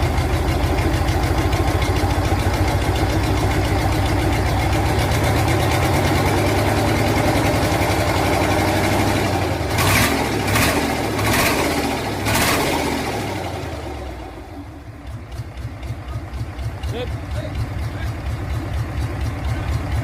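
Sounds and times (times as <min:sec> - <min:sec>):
engine chugging: 0:00.0 - 0:20.0.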